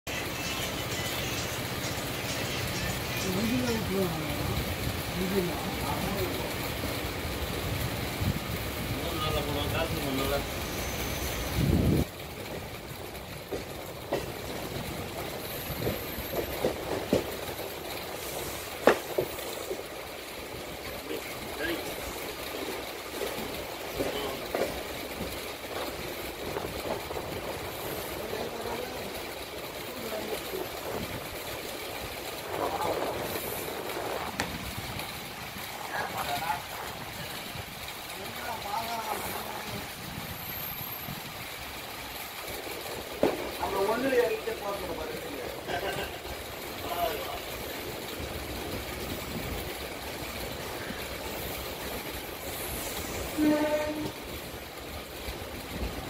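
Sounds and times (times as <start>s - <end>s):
train wheels rumbling: 0.1s - 56.0s.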